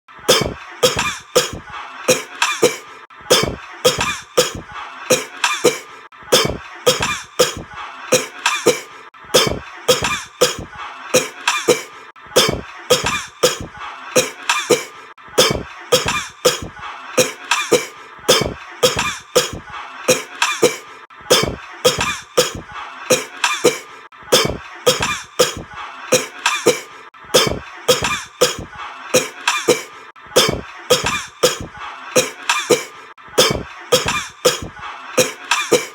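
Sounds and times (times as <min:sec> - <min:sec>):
person coughing: 0:00.3 - 0:07.6, 0:08.2 - 0:35.9.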